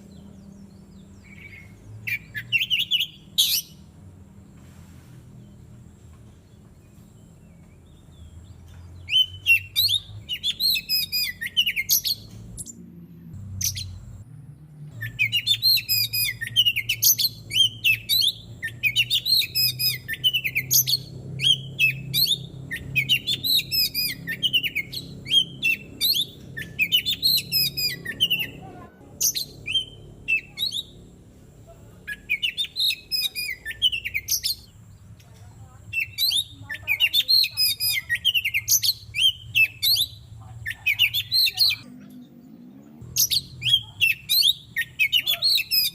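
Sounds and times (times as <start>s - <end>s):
bird singing whistled notes: 0.0s - 3.9s, 6.4s - 12.8s, 13.5s - 14.3s, 14.9s - 28.6s, 29.2s - 31.0s, 32.1s - 34.8s, 35.9s - 45.9s.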